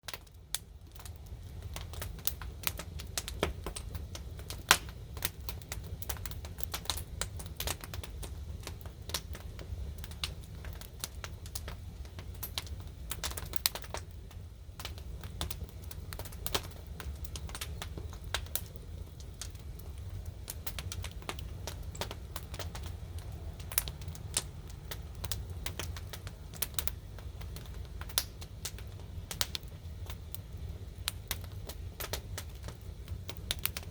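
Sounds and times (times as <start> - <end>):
low steady rumble: 0.0 - 33.9
wood fire crackling and popping: 0.0 - 33.9.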